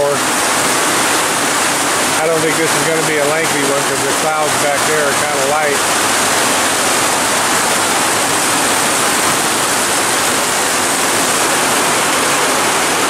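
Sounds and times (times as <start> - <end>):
heavy rain on trees and ground: 0.0 - 13.0.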